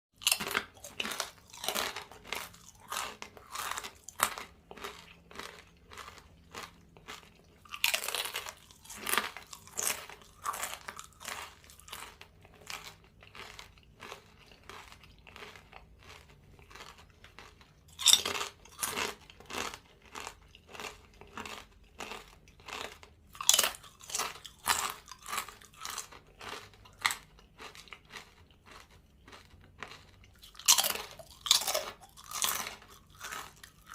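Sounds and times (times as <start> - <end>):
person chewing crunchy snack: 0.2 - 33.9.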